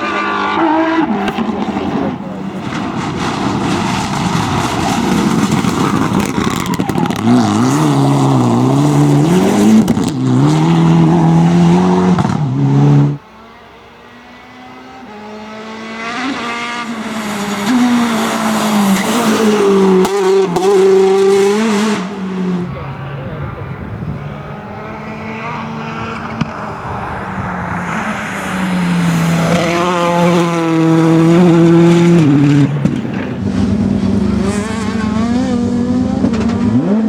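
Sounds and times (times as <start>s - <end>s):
rally car approaching: 0.0s - 37.0s
rally car engine revving: 0.0s - 37.0s.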